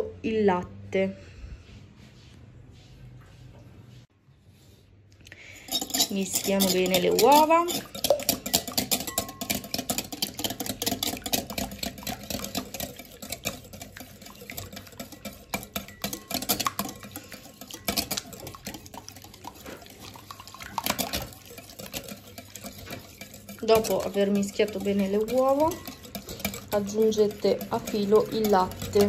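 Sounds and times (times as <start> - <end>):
whisk clicking against glass bowl: 5.6 - 29.0.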